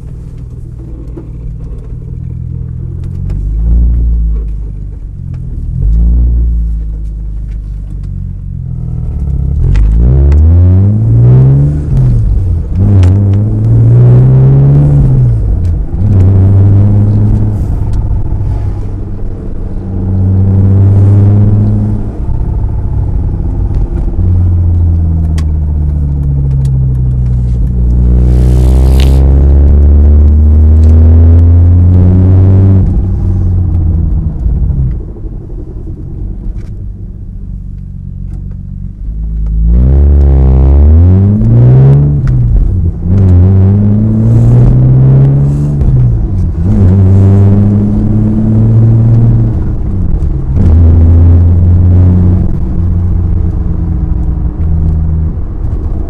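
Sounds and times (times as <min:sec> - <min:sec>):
car exhaust revving: 0:00.0 - 0:56.0.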